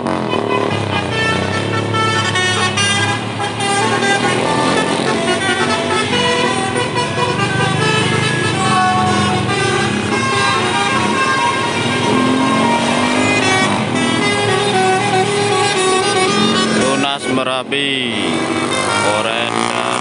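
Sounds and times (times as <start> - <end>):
bus engine running: 0.0 - 20.0
multi-tone air horn tune: 0.0 - 20.0.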